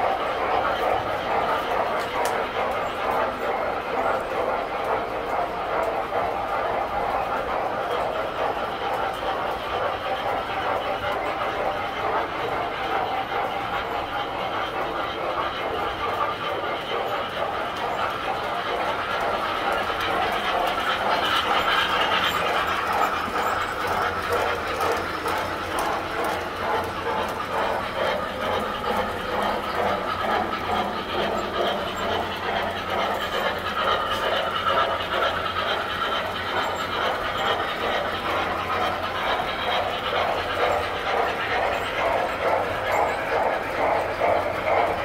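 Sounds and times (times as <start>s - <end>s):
toy trains running: 0.0s - 45.0s
wheels clicking over rail joints: 0.0s - 45.0s.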